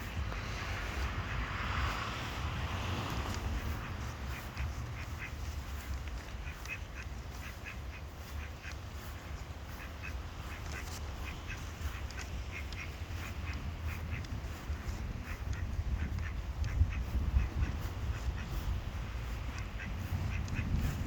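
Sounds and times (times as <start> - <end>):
ducks quacking: 0.0 - 21.0
steady low rumble: 0.0 - 21.0.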